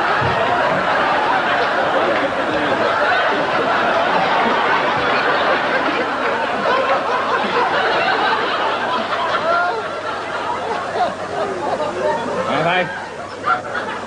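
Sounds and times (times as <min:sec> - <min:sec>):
large audience laughing: 0:00.0 - 0:14.0.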